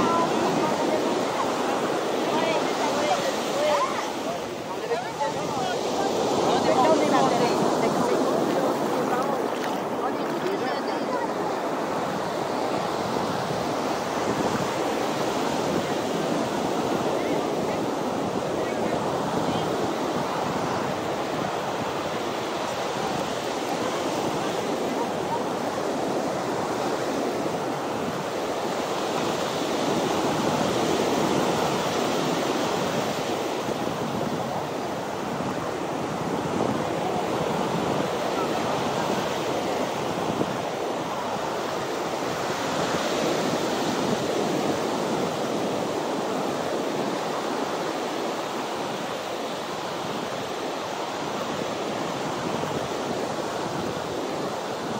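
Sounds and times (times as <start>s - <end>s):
ocean waves washing onto beach: 0.0s - 54.9s.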